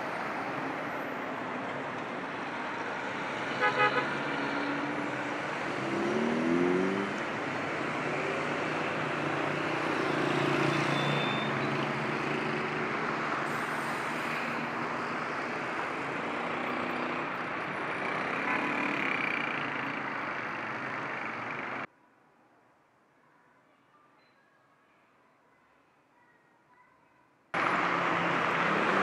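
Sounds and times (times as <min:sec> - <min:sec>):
cars and motorbikes passing: 0:00.0 - 0:21.9, 0:27.6 - 0:29.0.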